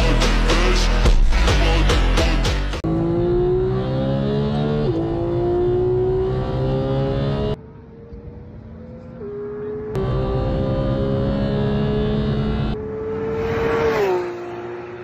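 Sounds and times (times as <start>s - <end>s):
sports car engine accelerating: 2.8s - 15.0s.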